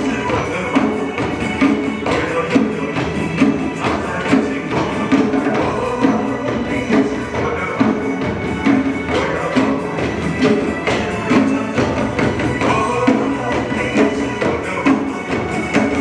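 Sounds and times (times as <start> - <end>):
upbeat pop song: 0.0 - 16.0.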